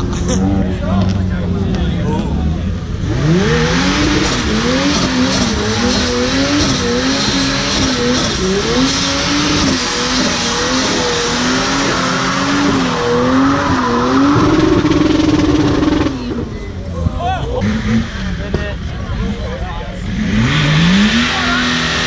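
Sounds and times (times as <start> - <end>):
car engine revving high: 0.0 - 16.6, 17.6 - 22.0.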